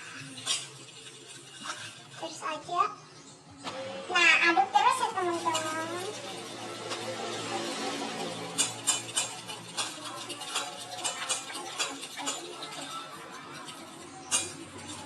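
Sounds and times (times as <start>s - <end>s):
utensil stirring sticky slime: 0.0s - 2.7s, 4.2s - 15.0s.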